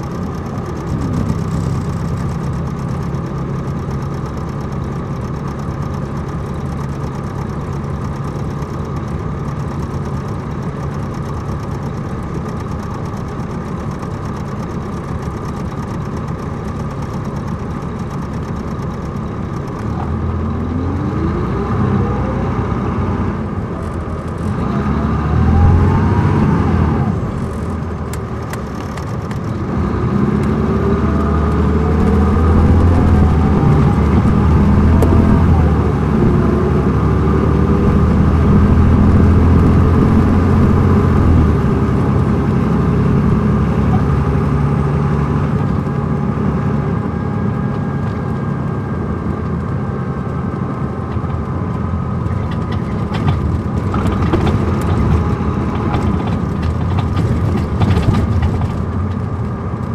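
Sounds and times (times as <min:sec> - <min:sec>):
diesel bus engine running: 0:00.0 - 0:59.9.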